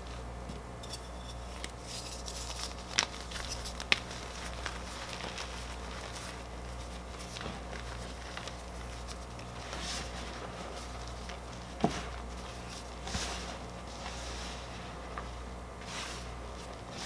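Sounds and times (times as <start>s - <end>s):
chalk crunching and crumbling: 1.0s - 17.0s.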